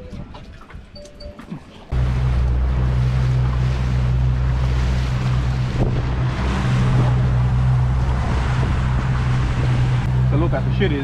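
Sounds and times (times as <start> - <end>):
water rushing along hull: 0.0 - 11.0
outboard motor running: 1.9 - 11.0
wind buffeting microphone: 1.9 - 11.0.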